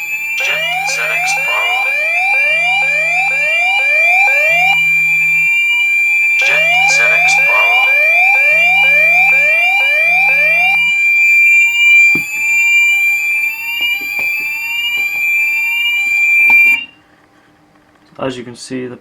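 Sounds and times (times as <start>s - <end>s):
pulsed low alarm buzz: 0.0s - 16.9s
fire alarm steady high tone: 0.0s - 17.0s
rising sweep alarm tones: 0.0s - 17.0s.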